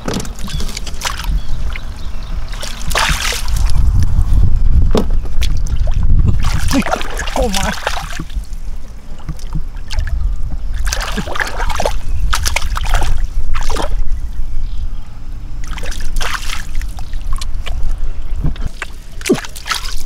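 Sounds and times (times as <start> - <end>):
shallow water splashing: 0.0 - 3.8, 5.4 - 14.1, 15.6 - 17.9, 18.6 - 20.0
steady low rumble: 0.0 - 20.0.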